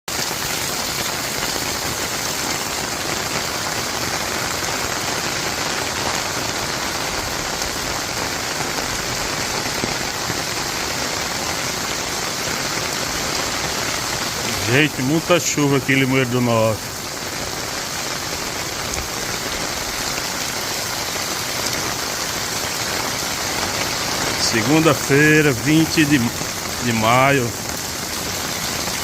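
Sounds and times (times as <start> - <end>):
heavy rain falling: 0.1 - 29.0.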